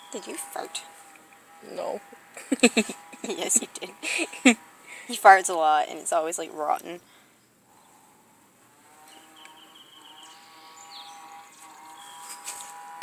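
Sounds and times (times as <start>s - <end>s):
steady two-tone hum: 0.0s - 13.0s.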